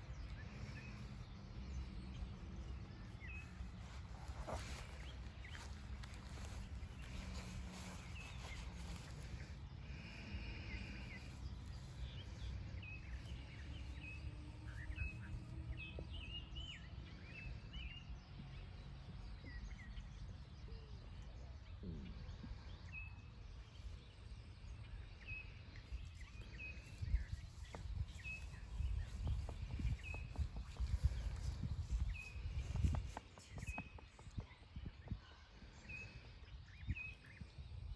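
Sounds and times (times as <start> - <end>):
steady low rumble: 0.0 - 37.9.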